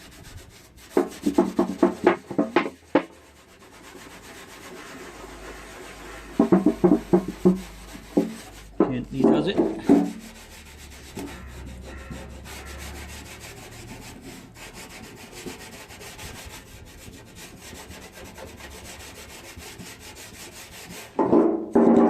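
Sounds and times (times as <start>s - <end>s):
scouring pad scrubbing a can: 0.0s - 21.3s.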